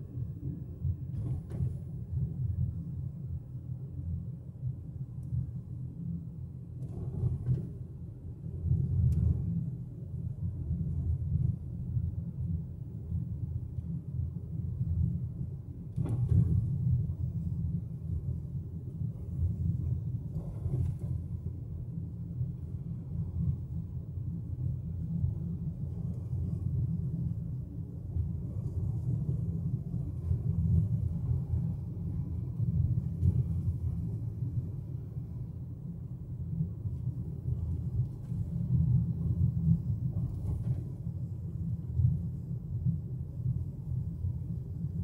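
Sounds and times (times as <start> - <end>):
car engine rumble: 0.0 - 45.0.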